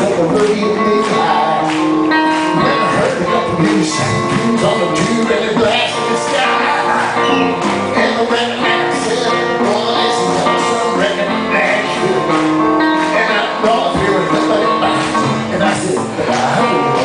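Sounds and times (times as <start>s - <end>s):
acoustic guitar playing: 0.0s - 17.0s
man singing: 0.0s - 17.0s.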